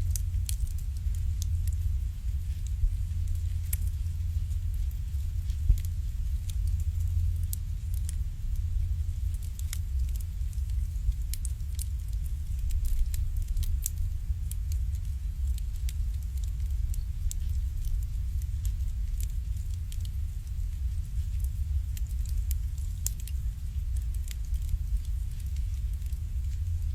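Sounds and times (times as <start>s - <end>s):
fire low rumble: 0.0s - 26.9s
wood fire crackling and popping: 0.0s - 26.9s.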